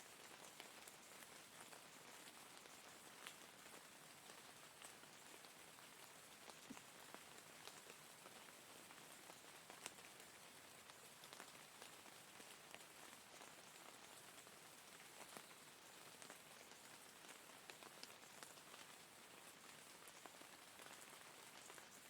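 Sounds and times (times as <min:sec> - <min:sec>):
faint rain hiss: 0:00.0 - 0:22.0
raindrops ticking on surface: 0:00.0 - 0:22.0.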